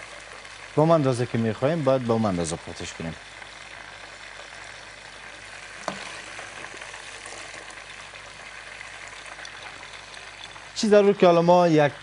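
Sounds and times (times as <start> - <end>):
meat deep-frying in oil: 0.0 - 12.0.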